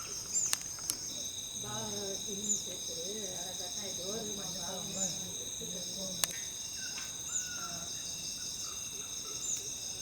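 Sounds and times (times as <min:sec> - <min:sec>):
crickets and insects trilling: 0:00.0 - 0:10.0.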